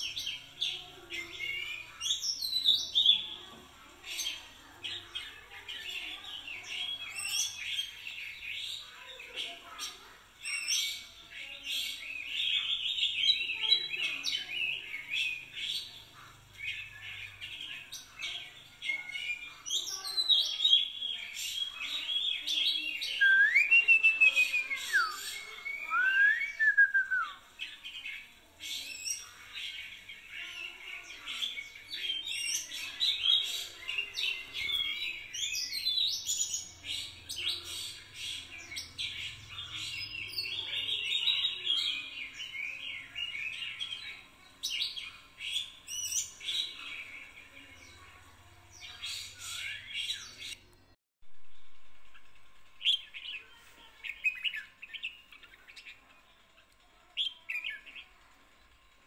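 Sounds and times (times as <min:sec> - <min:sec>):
songbirds chirping: 0:00.0 - 0:51.0, 0:51.9 - 0:59.0.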